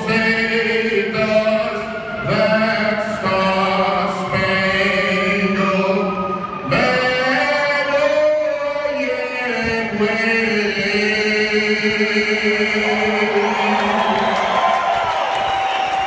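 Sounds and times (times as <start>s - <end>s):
anthem singing in long notes: 0.0s - 16.0s.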